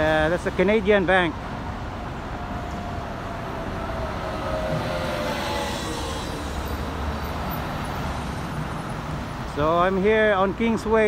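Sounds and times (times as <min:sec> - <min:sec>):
cars passing on city street: 0:00.0 - 0:11.0.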